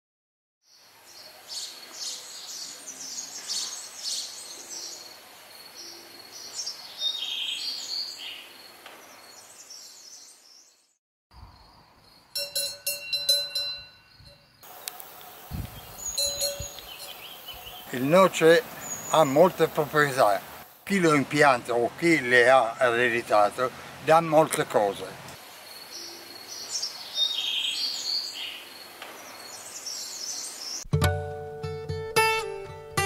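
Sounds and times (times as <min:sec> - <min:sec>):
birds chirping: 0:00.7 - 0:11.0, 0:14.0 - 0:30.9.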